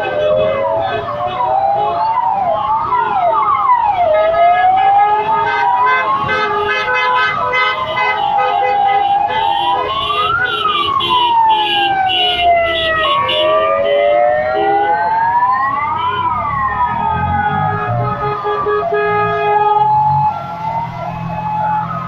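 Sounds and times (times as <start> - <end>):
fire truck sirens wailing: 0.0 - 22.0.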